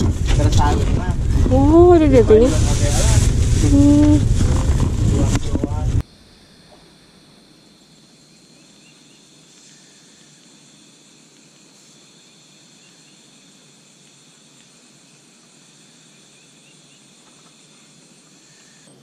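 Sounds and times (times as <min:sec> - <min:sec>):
night insect chorus: 0:00.0 - 0:19.0
open-air ambient hiss: 0:00.0 - 0:19.0.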